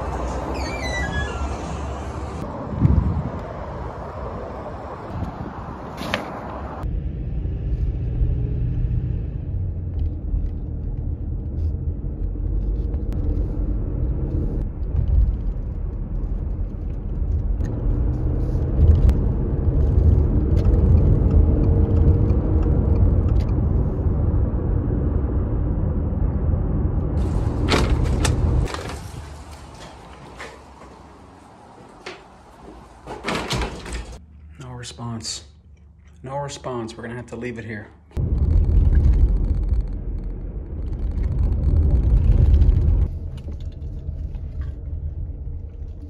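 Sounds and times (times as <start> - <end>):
car cabin engine and road noise: 0.0 - 33.3, 37.7 - 46.0.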